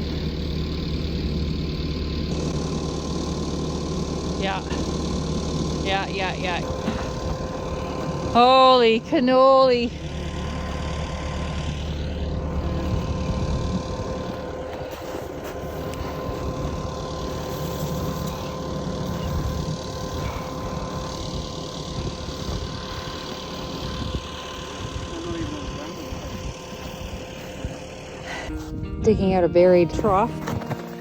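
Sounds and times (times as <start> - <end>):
thin steady whine: 0.0 - 31.0
tractor engine running: 0.0 - 31.0.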